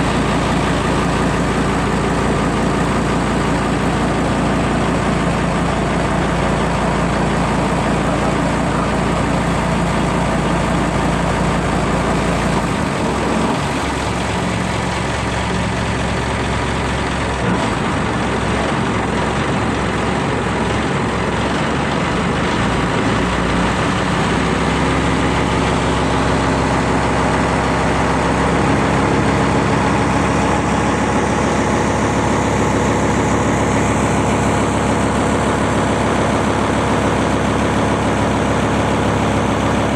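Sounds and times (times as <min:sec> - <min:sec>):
ship engine droning: 0:00.0 - 0:39.9.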